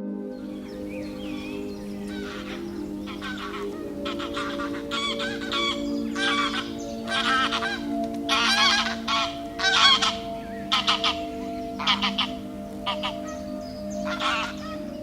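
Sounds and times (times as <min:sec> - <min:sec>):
soft background music: 0:00.0 - 0:15.0
bird harsh calls: 0:00.4 - 0:15.0.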